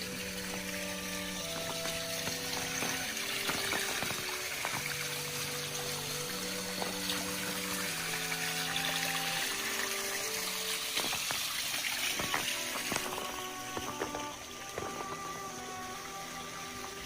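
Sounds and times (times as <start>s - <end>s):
slow sustained chords: 0.0s - 17.0s
steady hiss: 0.0s - 17.0s.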